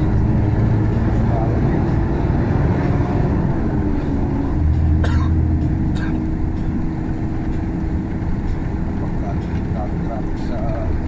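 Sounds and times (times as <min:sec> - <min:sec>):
bus diesel engine droning: 0:00.0 - 0:11.0
road noise: 0:00.0 - 0:11.0.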